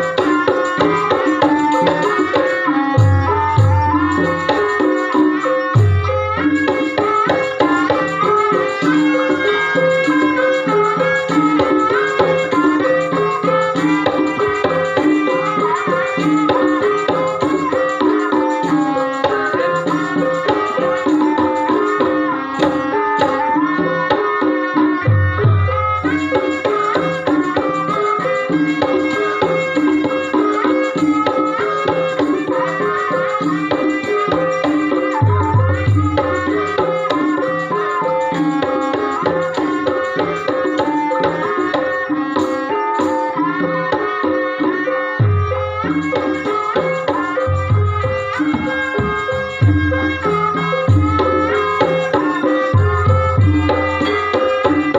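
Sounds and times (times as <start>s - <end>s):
gamelan melody notes: 0.0s - 54.9s
hand drum strokes: 0.0s - 54.9s.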